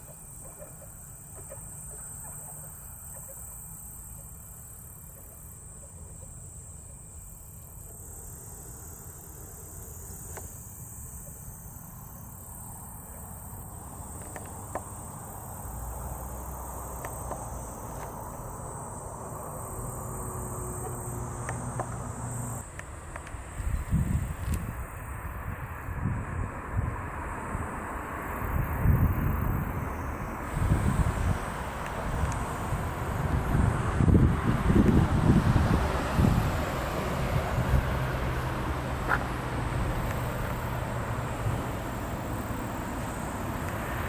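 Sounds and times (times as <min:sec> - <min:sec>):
insects chirring: 0:00.0 - 0:44.0.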